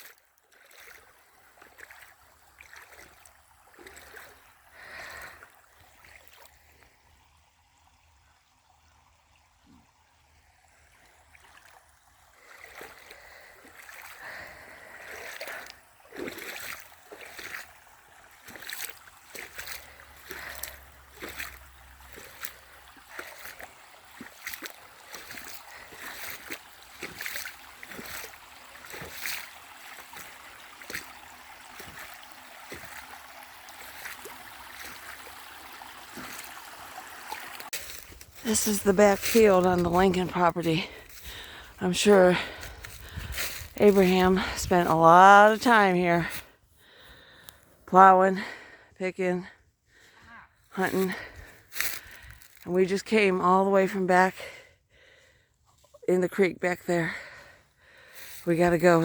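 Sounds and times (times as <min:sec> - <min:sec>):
footsteps wading through water: 0:00.0 - 0:08.0, 0:08.7 - 0:59.0
creek water trickling: 0:00.0 - 0:59.0.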